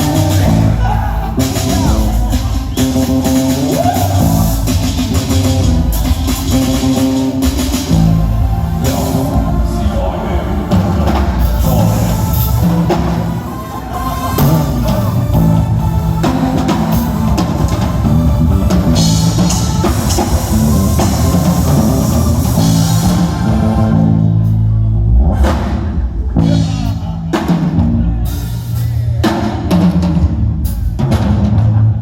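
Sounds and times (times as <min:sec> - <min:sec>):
cymbals: 0:00.0 - 0:31.7
bass notes: 0:00.0 - 0:32.0
drum kit: 0:00.0 - 0:32.0
live band music: 0:00.0 - 0:32.0.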